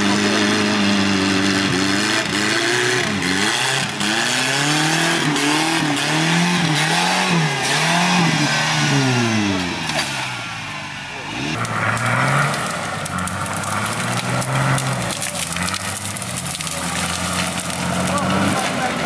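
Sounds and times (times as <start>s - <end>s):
off-road vehicle engine revving: 0.0s - 19.0s
tires churning through mud: 0.0s - 19.0s.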